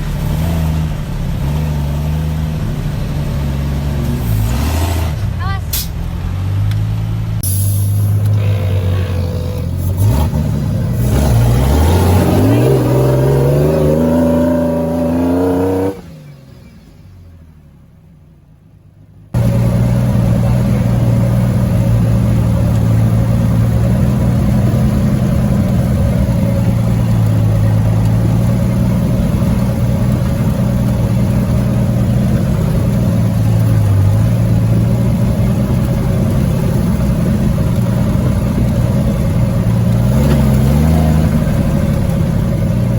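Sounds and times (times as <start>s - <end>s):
off-road vehicle engine revving: 0.0s - 17.1s, 19.3s - 42.9s.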